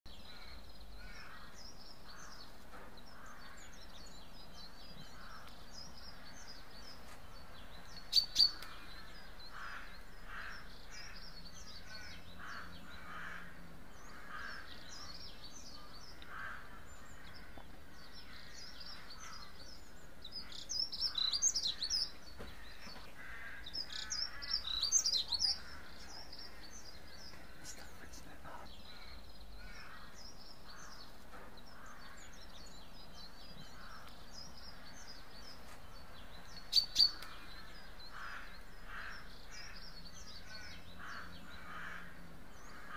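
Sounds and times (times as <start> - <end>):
small birds chirping: 0.1 - 42.9
steady low hiss: 0.1 - 42.9.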